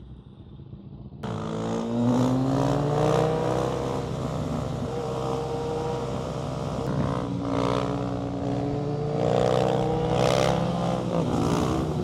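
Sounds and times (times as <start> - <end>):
motorcycle engine accelerating: 1.2 - 12.0.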